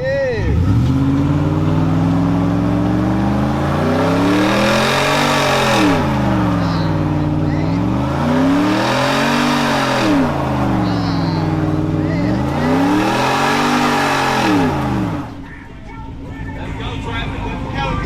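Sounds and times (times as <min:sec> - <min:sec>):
truck engine revving hard: 0:00.0 - 0:15.5.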